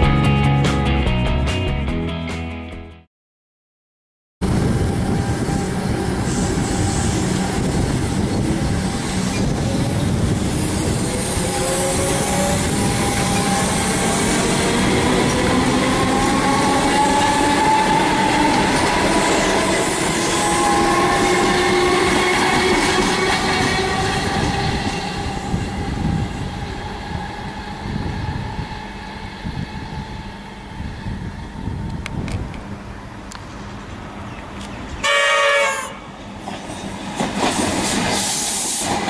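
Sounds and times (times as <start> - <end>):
train wheels rumbling on rail: 4.4 - 39.0
train whine rising and falling: 4.4 - 39.0.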